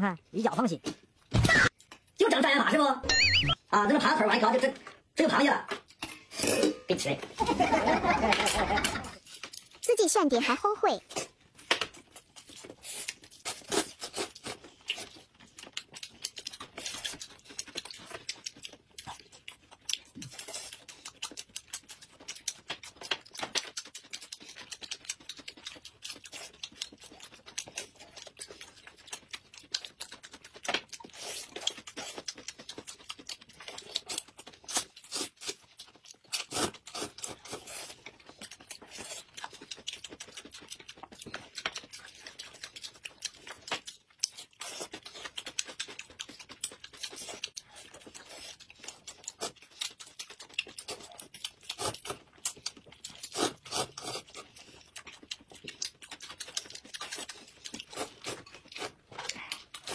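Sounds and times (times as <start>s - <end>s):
people chewing buns: 7.3s - 59.9s.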